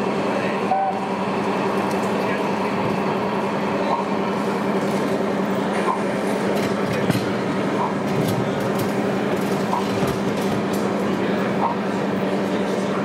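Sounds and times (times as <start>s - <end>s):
model trains humming: 0.0s - 13.0s.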